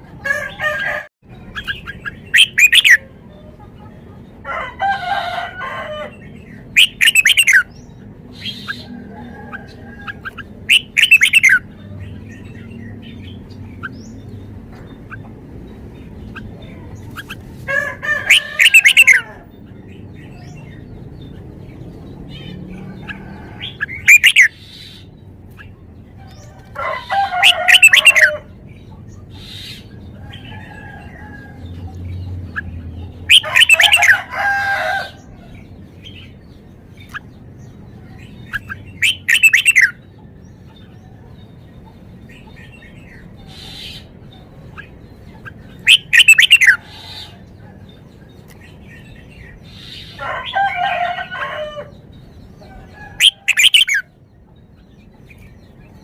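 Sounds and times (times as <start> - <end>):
bird warbling song: 0.0 - 56.0.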